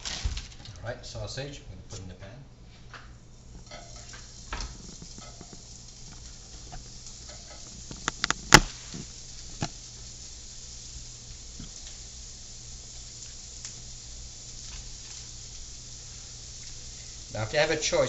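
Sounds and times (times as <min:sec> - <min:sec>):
sausages sizzling in a frying pan: 0:00.0 - 0:18.0.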